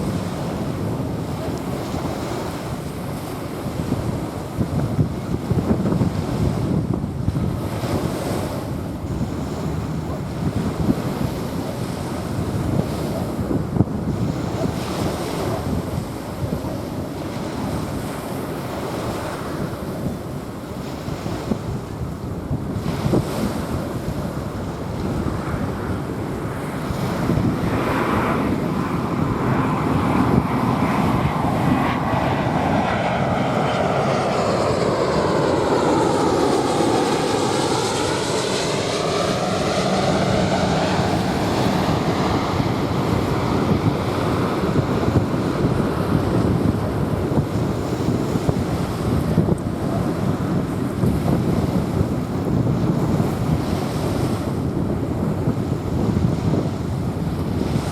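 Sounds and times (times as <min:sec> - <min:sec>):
waves washing onto beach: 0:00.0 - 0:13.3, 0:14.1 - 0:57.9
jet airliner rushing: 0:00.0 - 0:57.9
wind on microphone: 0:00.0 - 0:57.9.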